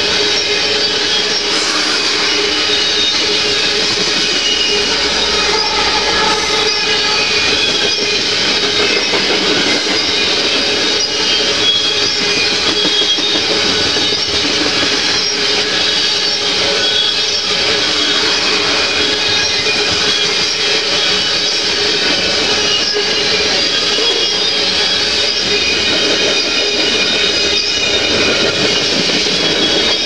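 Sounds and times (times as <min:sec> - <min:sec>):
train wheels rumbling on rail: 0:00.0 - 0:30.0
wheels squealing: 0:00.0 - 0:30.0.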